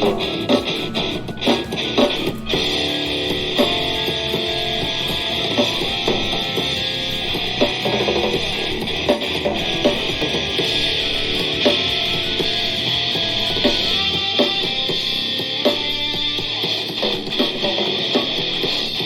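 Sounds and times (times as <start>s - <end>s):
loud rock music from speaker: 0.0s - 19.0s.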